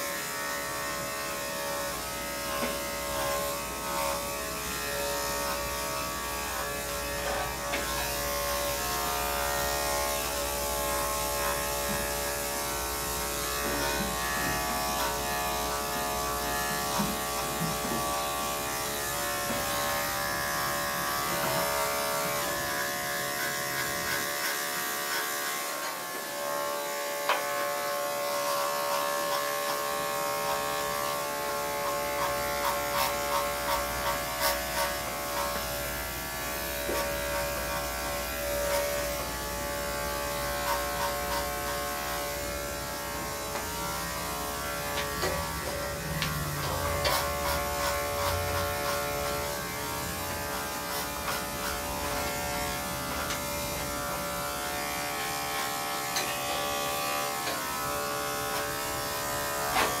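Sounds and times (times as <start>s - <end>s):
electric clippers buzzing: 0.0s - 60.0s.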